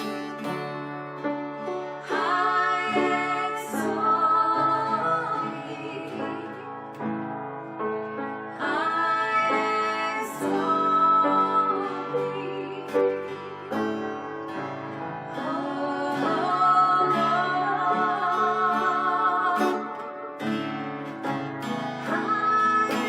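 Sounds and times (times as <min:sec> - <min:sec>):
guitar accompaniment: 0:00.0 - 0:23.0.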